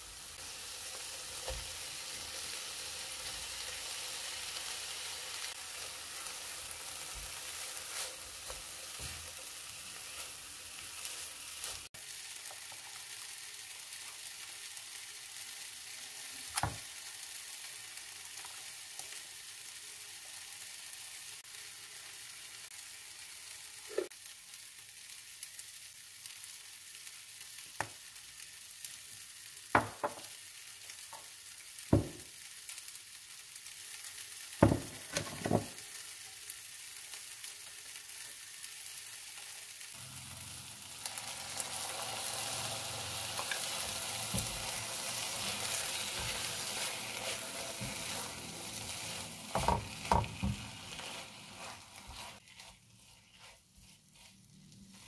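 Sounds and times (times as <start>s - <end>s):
rice sizzling in a frying pan: 0.0s - 55.0s.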